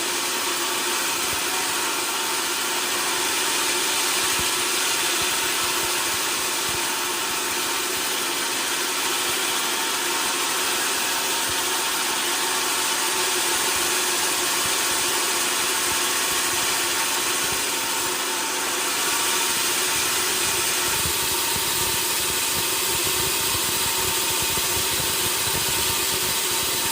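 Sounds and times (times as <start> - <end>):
sawmill machinery drone: 0.0 - 26.9.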